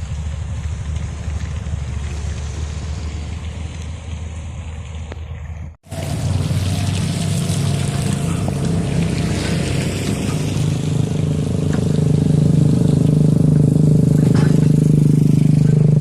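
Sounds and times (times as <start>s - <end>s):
heavy diesel engine running: 0.0s - 5.2s, 5.8s - 16.0s.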